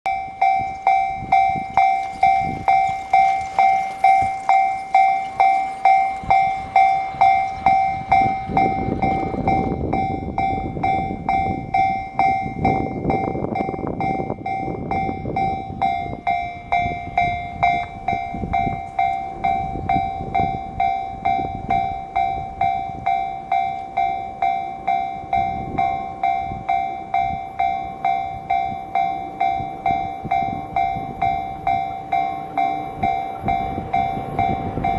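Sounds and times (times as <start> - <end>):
level crossing alarm ringing: 0.0 - 34.9
train wheels rumbling on rails: 0.1 - 34.9.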